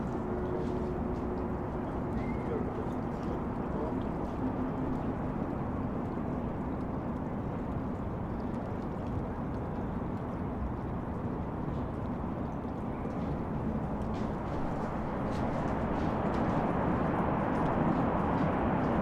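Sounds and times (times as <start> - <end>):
heavy city traffic hum: 0.0 - 19.0.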